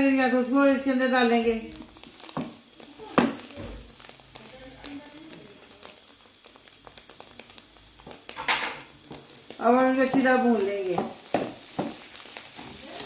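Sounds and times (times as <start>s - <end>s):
food sizzling in a wok: 0.0s - 13.0s
wooden spoon stirring: 1.2s - 8.4s, 9.0s - 13.0s.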